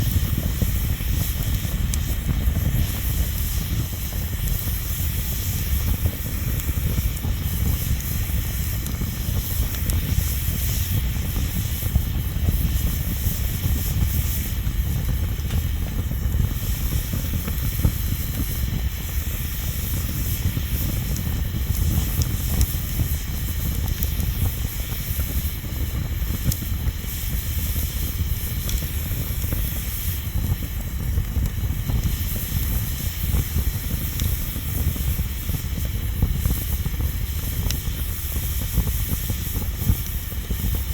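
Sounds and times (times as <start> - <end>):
bonfire hissing and rumbling: 0.0 - 40.9
faint fire crackles: 0.0 - 40.9.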